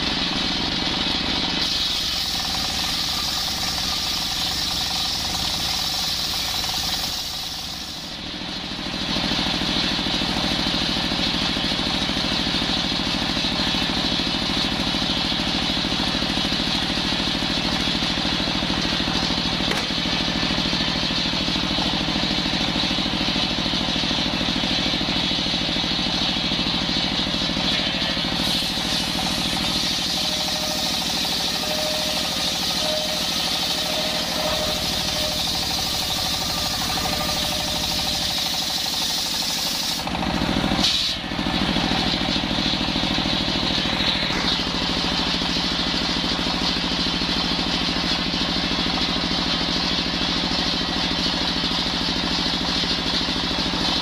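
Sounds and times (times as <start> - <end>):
diesel engine rumble: 0.0 - 54.0.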